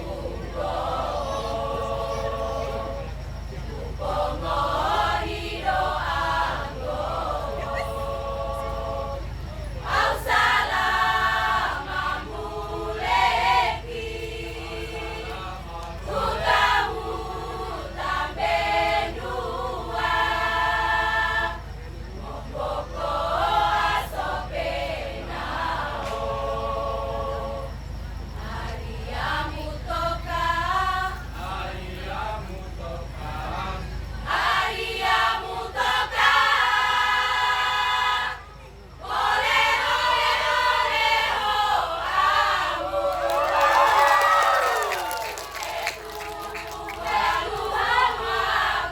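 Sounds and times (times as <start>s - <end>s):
choir singing sustained chords: 0.0s - 48.9s.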